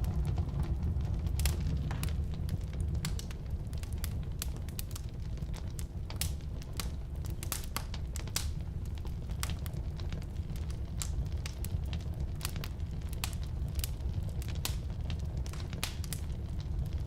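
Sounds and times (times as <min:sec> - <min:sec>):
firewood crackling and popping: 0:00.0 - 0:17.0
low rumble of flames: 0:00.0 - 0:17.0.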